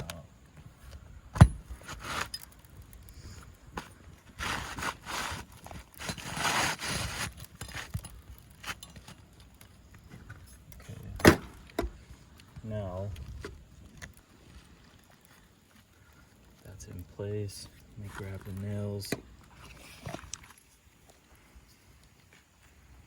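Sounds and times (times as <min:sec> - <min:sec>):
shingles scraping: 0:00.8 - 0:16.1, 0:16.7 - 0:21.0.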